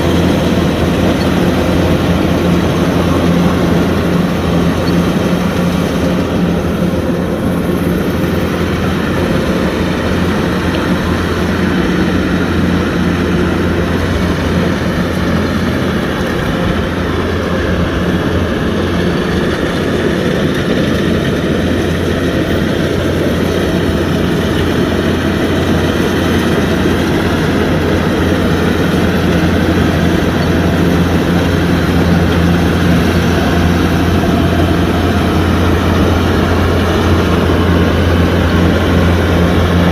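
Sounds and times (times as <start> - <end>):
diesel engine drone: 0.0 - 39.9
harvesting machinery clatter: 0.0 - 39.9.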